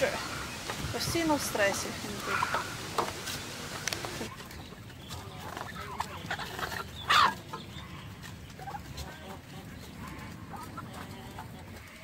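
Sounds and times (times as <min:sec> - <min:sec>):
turkey gobbling: 0:00.0 - 0:04.6, 0:05.2 - 0:12.0
soft turkey calls: 0:00.0 - 0:12.0.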